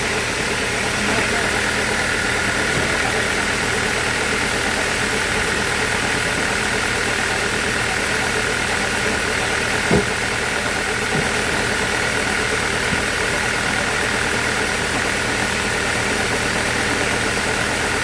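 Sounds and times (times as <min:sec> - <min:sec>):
sawmill machinery whining: 0:00.0 - 0:18.0.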